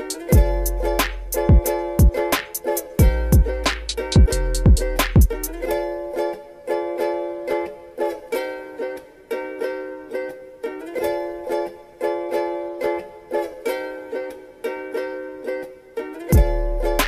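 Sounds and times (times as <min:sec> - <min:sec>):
plucked-string chord pattern: 0:00.0 - 0:17.0.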